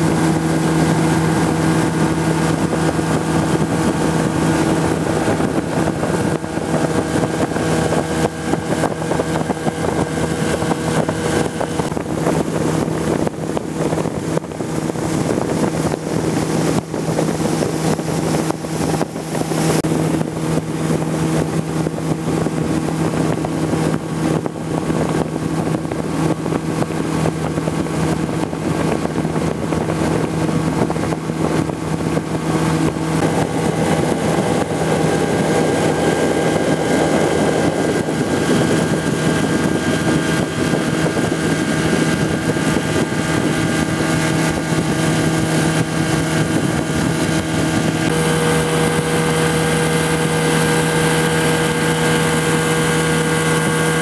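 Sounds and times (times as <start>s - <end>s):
motorboat engine droning: 0.0s - 54.0s
wind and water rushing: 0.0s - 54.0s.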